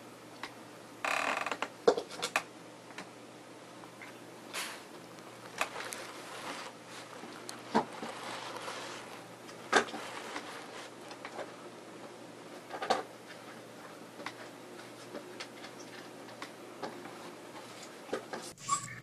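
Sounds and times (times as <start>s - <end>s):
faint steady hum: 0.0s - 18.8s.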